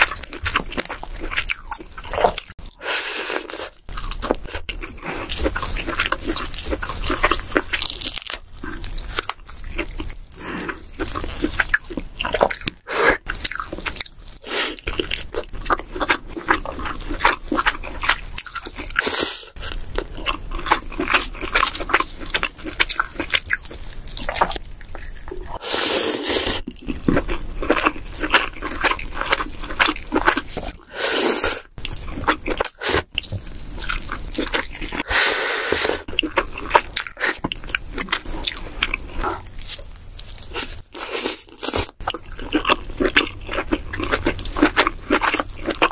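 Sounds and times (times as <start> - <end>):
close chewing and biting: 0.0 - 45.9.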